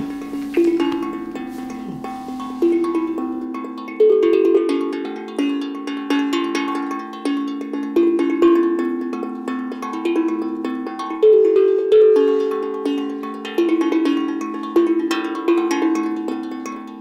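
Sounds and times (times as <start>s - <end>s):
melody of struck pitched notes: 0.0s - 17.0s.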